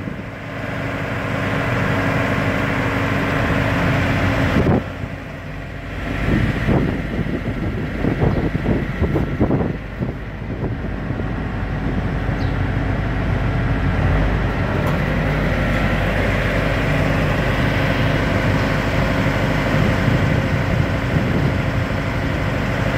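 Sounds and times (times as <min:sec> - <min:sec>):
heavy engine droning: 0:00.0 - 0:22.9.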